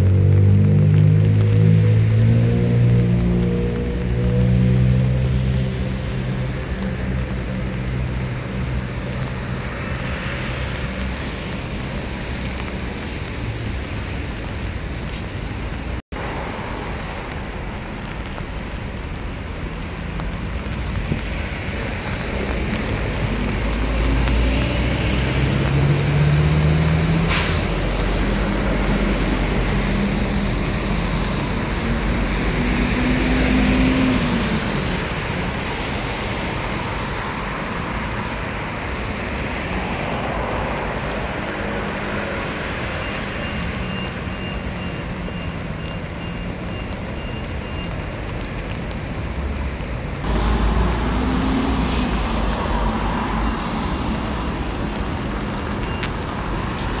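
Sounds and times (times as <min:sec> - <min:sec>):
tyres hissing on wet road: 0:00.0 - 0:57.0.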